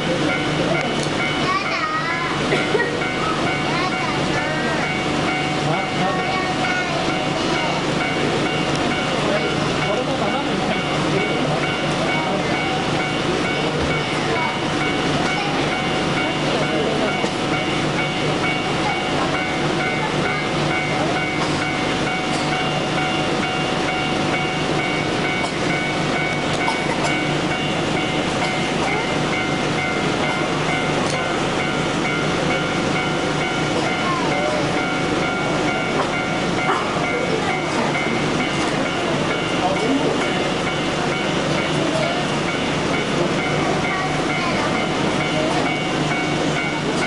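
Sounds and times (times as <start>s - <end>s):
electric train humming: 0.0s - 47.0s
faint voices: 0.0s - 47.0s.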